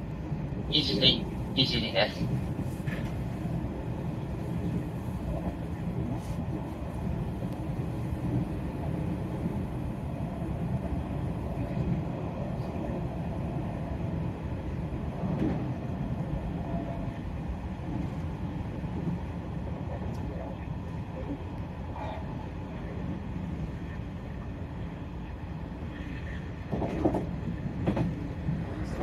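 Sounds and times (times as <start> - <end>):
train wheels rumbling on rails: 0.0 - 24.6, 25.4 - 29.0.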